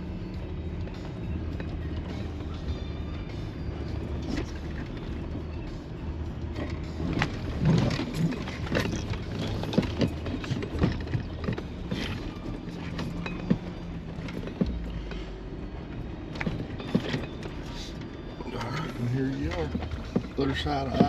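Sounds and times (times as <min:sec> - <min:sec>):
low engine drone: 0:00.0 - 0:21.0
vehicle knocks and rattles: 0:00.3 - 0:21.0.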